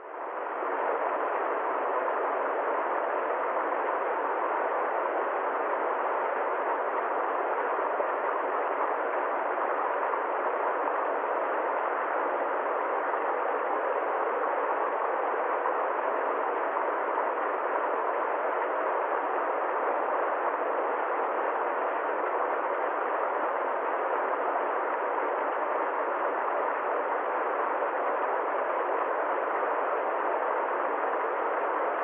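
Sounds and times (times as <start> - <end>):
steady hiss-like noise: 0.0 - 32.0.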